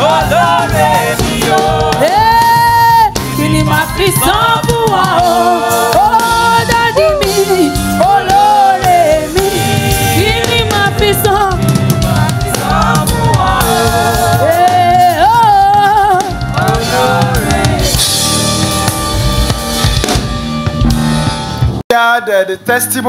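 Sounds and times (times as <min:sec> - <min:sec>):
singers holding notes: 0:00.0 - 0:19.7
bass guitar: 0:00.0 - 0:21.8
drum kit beating: 0:00.0 - 0:22.0
keyboard: 0:00.0 - 0:23.0.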